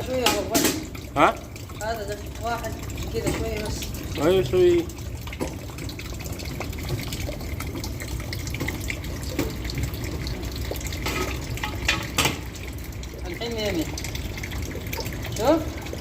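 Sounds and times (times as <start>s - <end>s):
running water splashing: 0.0s - 16.0s.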